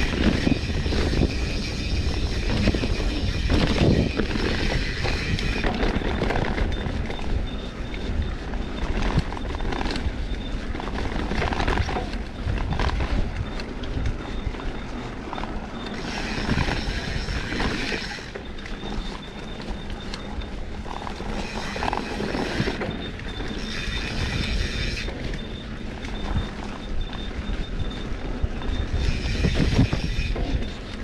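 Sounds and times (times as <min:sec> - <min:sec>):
vehicle engine and road noise: 0:00.0 - 0:31.0
wind buffeting microphone: 0:00.0 - 0:31.0.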